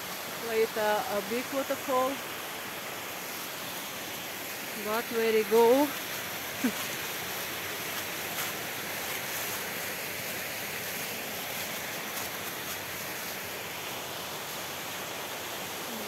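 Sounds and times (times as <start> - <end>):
forest stream over small waterfalls: 0.0 - 16.0.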